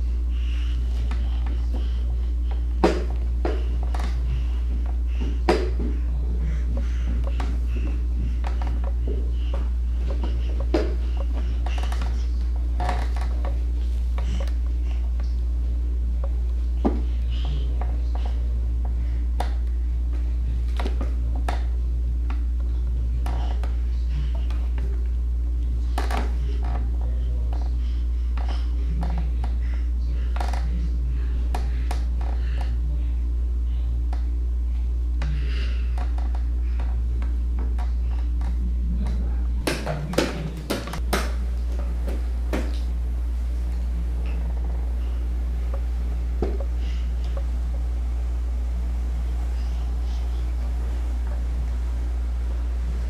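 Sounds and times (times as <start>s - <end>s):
low hum: 0.0s - 53.0s.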